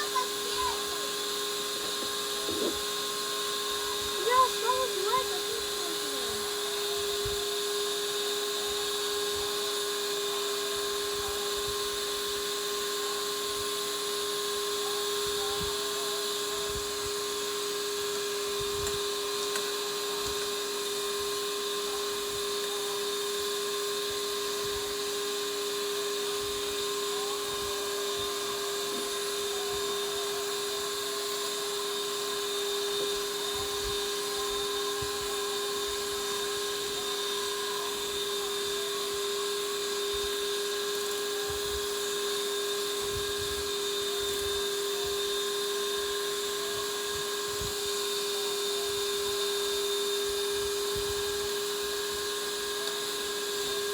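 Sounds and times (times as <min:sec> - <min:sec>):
electric mixer motor whine: 0:00.0 - 0:53.9.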